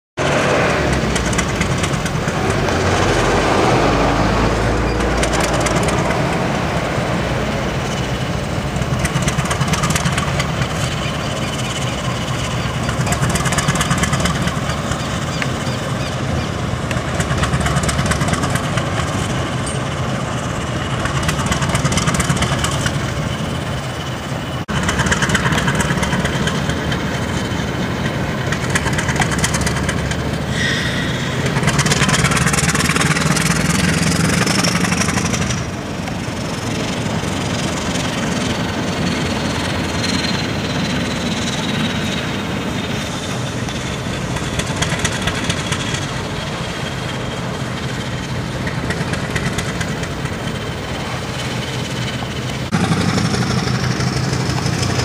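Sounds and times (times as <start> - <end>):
diesel locomotive engine running: 0.2 - 55.0.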